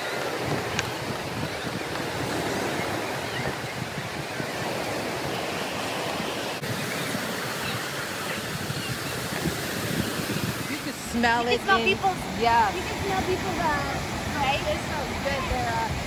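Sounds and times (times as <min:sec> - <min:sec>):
surf breaking on a beach: 0:00.0 - 0:16.0.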